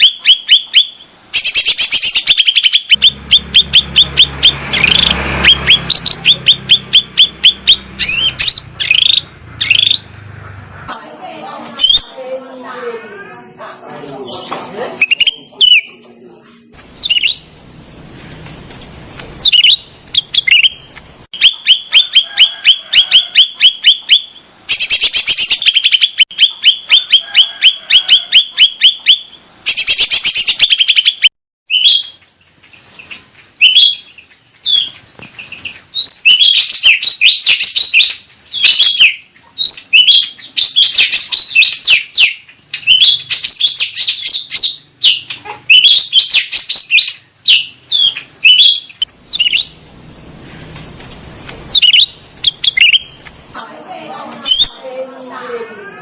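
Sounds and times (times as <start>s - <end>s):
bird chirping rapidly: 0.0s - 11.0s, 11.8s - 12.3s, 14.2s - 16.0s, 16.8s - 53.6s.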